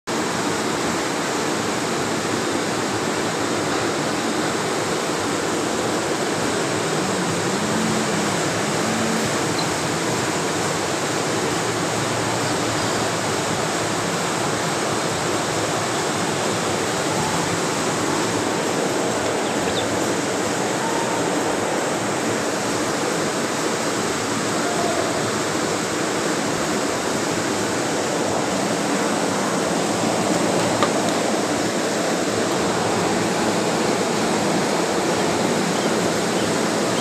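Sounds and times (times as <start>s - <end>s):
steady rushing noise: 0.1s - 24.6s, 25.2s - 37.0s.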